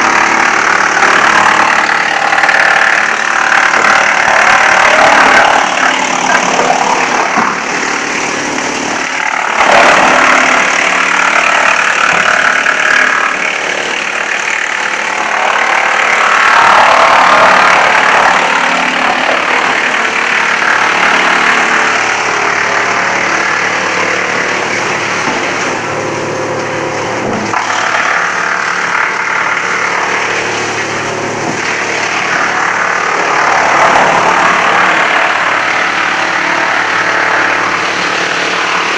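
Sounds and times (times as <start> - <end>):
wood chipper running: 0.0 - 38.9.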